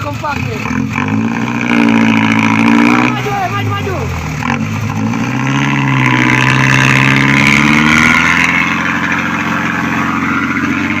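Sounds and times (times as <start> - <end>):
truck engine revving under load: 0.0 - 11.0.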